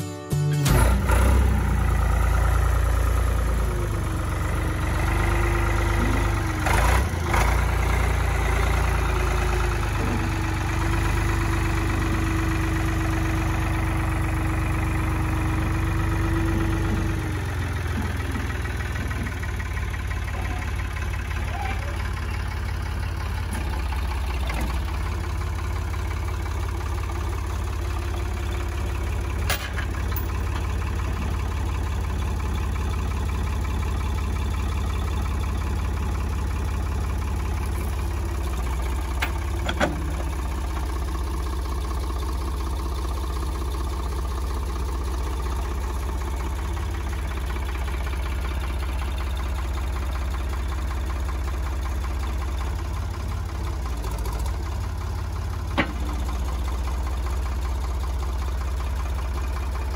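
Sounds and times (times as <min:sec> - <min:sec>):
diesel engine running: 0:00.6 - 0:59.9.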